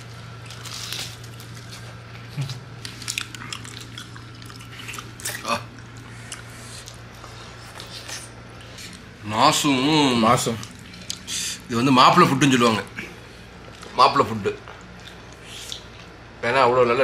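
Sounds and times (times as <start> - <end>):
people eating and handling food: 0.0 - 16.4
steady low hum: 0.0 - 17.0.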